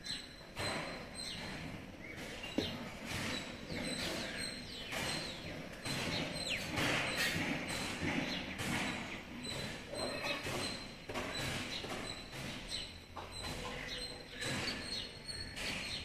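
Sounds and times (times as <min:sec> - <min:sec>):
background noise: 0:00.0 - 0:16.0
small birds chirping: 0:00.0 - 0:16.0.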